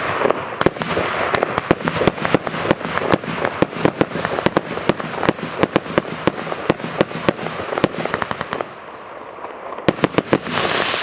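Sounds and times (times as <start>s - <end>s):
fireworks bangs: 0.0s - 11.0s
fireworks hiss: 0.0s - 11.0s.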